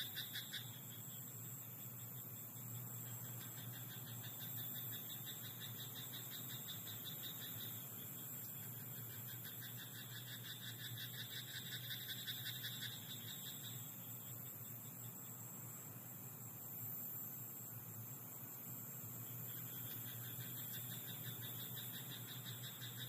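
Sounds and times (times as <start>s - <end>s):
frogs croaking: 0.0s - 23.0s
insect trill: 0.0s - 23.0s.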